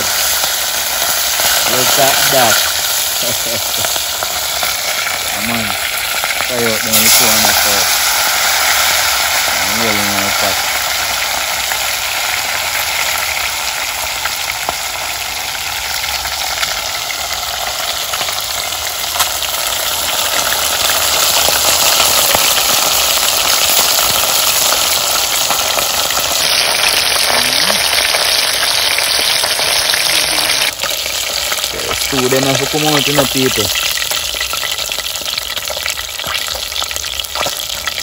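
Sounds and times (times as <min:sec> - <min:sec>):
fish frying in hot oil: 0:00.0 - 0:38.0.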